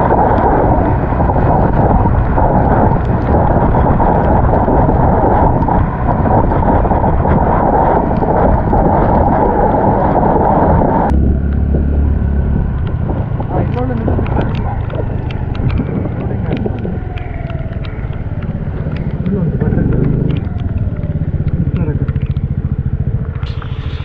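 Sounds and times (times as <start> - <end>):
low hum: 0.0 - 24.0
road and engine noise: 0.0 - 24.0
wind buffeting microphone: 0.0 - 24.0.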